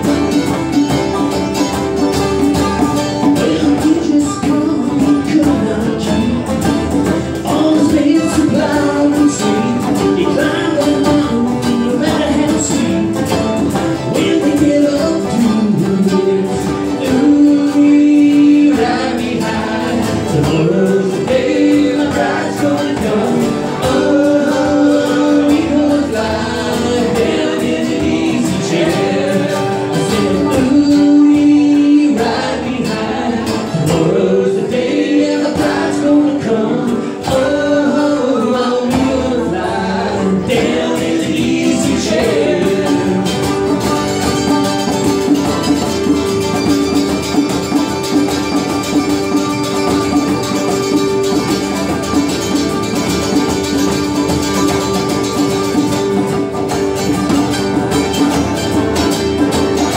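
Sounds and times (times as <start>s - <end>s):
men singing: 0.0s - 56.8s
bluegrass band playing: 0.0s - 59.9s.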